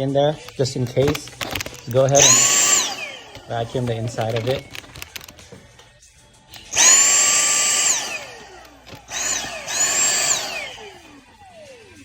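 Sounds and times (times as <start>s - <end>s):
handheld vacuum motor whining: 0.5s - 5.6s, 6.6s - 11.9s.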